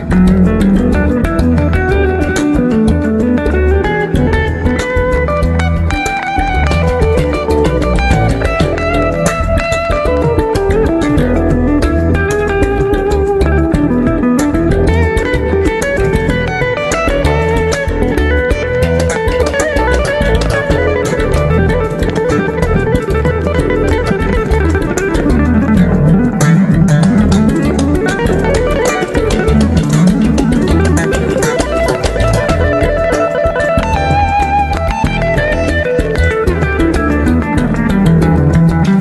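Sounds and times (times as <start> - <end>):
electric bass: 0.0 - 39.0
electric guitar: 0.0 - 39.0
hand percussion clicking strokes: 0.0 - 39.0.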